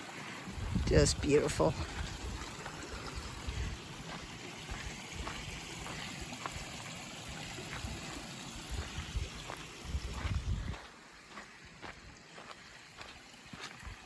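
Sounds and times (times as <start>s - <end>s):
creek water flowing over rocks: 0.0s - 14.0s.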